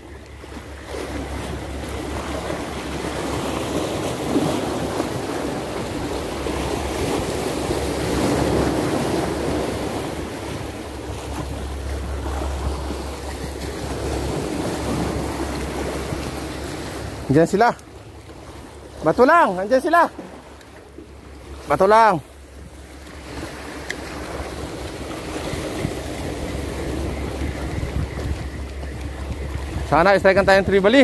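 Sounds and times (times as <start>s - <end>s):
wind rumbling on microphone: 0.0s - 19.1s, 22.3s - 31.0s
sea water washing on shore: 0.0s - 31.0s.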